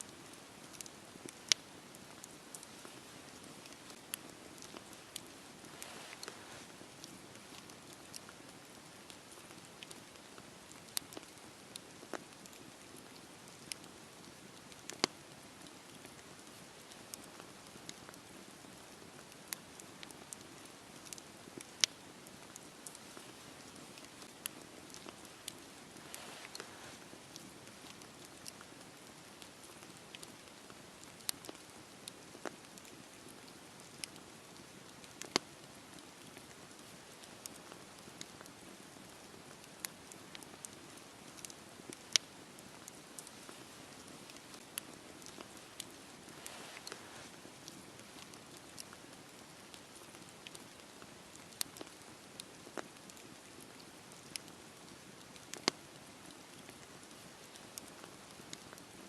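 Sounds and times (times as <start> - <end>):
campfire hiss with pops and crackles: 0.0 - 59.0.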